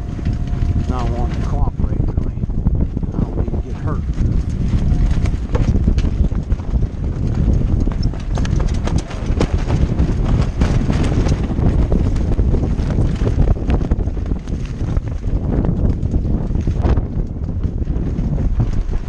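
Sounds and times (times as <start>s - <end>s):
sailboat gear knocking and rattling: 0.0s - 19.0s
wind buffeting microphone: 0.0s - 19.0s.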